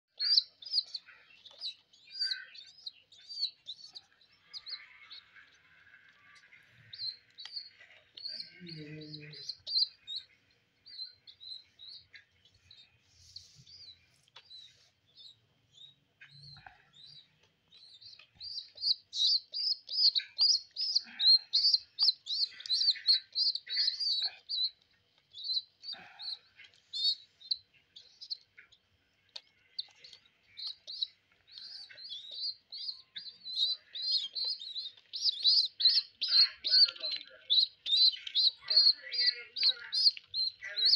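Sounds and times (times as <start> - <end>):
baby pigeons squeaking: 0.1 - 40.9.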